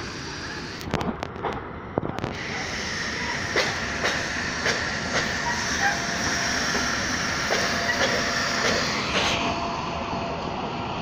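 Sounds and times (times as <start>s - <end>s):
train wheels clicking over rail joints: 0.0s - 9.5s
train rumble and hiss: 0.0s - 11.0s.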